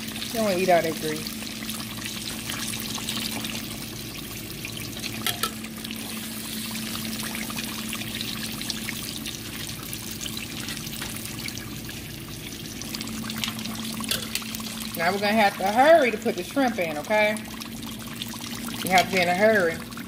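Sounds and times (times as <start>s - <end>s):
fish deep-frying in oil: 0.0s - 20.0s
low steady hum: 0.0s - 20.0s.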